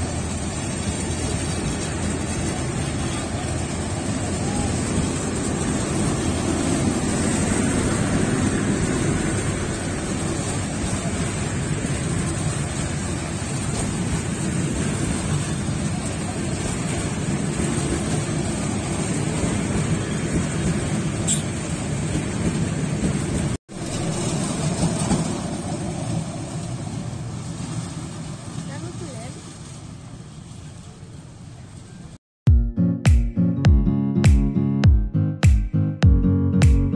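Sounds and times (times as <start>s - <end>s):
train wheels rumbling on rail: 0.0s - 32.2s.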